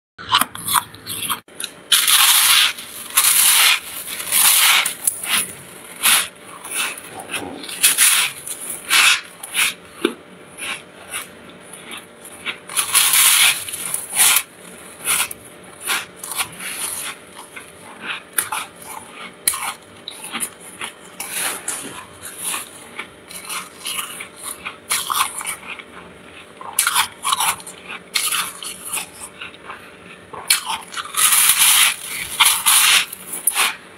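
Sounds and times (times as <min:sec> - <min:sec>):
frost crunching as chewed: 0:00.2 - 0:33.8.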